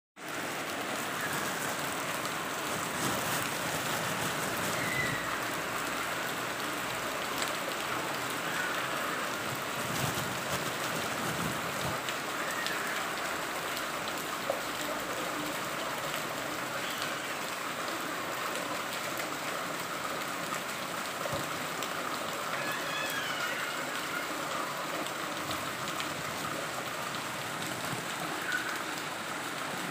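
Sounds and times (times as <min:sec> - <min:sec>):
rain falling into standing water: 0:00.2 - 0:29.9.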